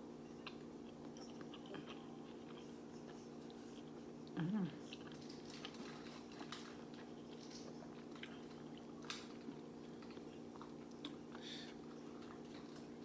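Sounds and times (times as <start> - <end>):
soft chewing: 0.0 - 13.0
steady low hum: 0.0 - 13.0.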